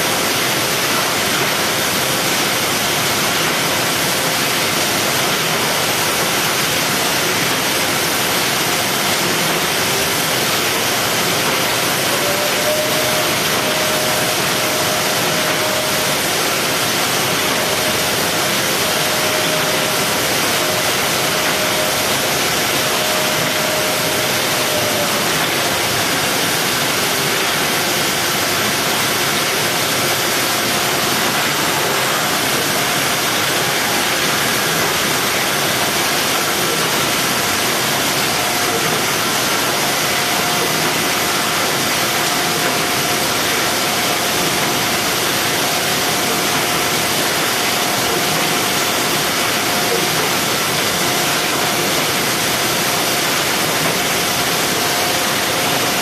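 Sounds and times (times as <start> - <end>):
machinery hiss and hum: 0.0 - 56.0.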